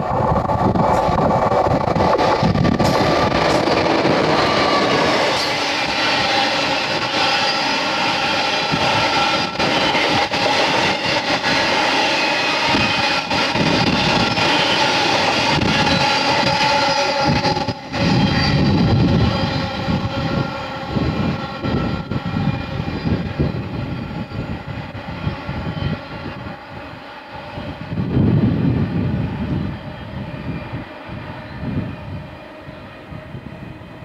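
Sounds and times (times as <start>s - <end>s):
diesel locomotive engine droning: 0.0s - 34.0s
wagons rumbling on rails: 0.0s - 34.0s.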